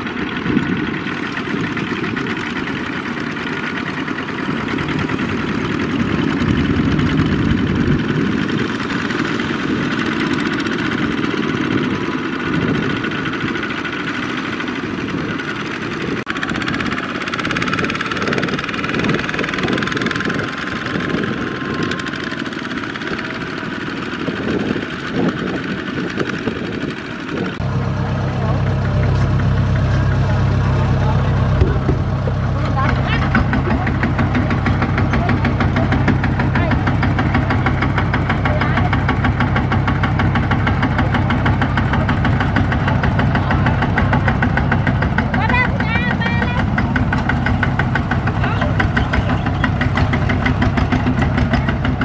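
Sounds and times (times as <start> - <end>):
diesel tractor engines running: 0.0 - 52.0.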